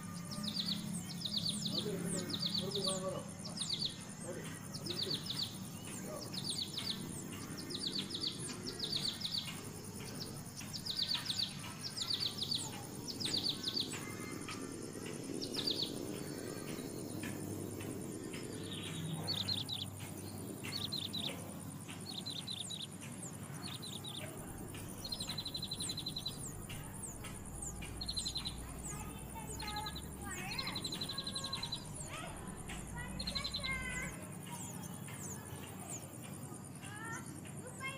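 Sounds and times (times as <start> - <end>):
bird chirps: 0.0 - 37.9
buzzy bird trills: 0.0 - 37.9
high insect drone: 0.0 - 37.9.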